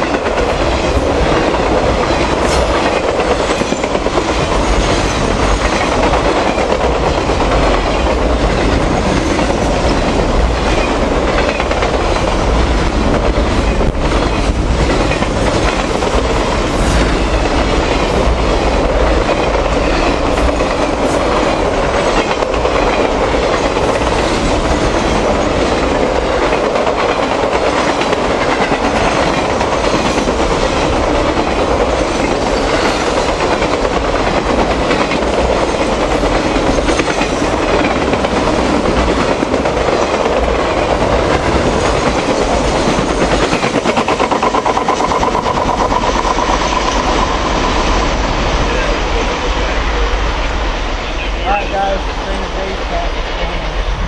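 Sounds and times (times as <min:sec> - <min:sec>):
clickety-clack over rail joints: 0:00.0 - 0:54.0
train wheels clattering on rails: 0:00.0 - 0:54.0.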